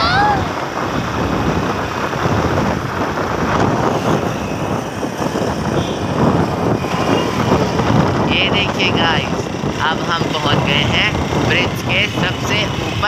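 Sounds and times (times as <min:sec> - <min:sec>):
motorbike engine: 0:00.0 - 0:13.0
wind rushing over microphone: 0:00.0 - 0:13.0.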